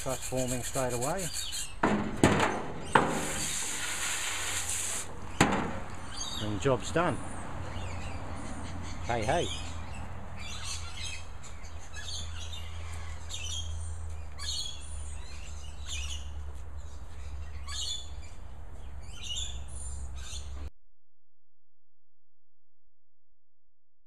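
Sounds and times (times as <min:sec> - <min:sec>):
birds chirping and calling: 0:00.0 - 0:20.7.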